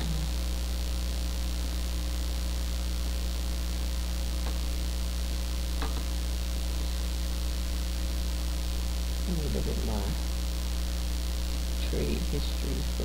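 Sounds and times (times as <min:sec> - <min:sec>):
low electrical hum: 0:00.0 - 0:13.0
recording hiss: 0:00.0 - 0:13.0.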